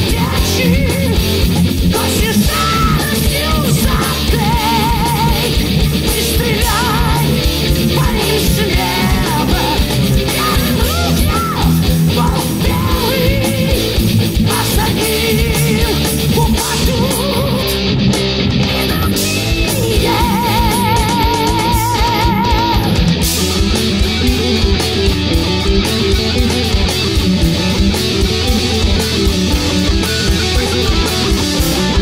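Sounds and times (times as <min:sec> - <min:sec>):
heavy rock song: 0:00.0 - 0:32.0
wavering lead guitar line: 0:00.0 - 0:32.0.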